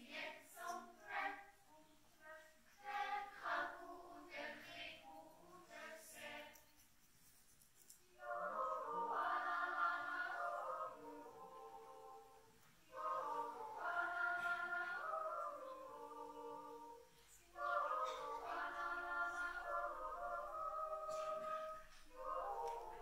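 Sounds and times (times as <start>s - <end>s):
children's choir yodeling: 0.0s - 6.6s, 8.2s - 23.0s.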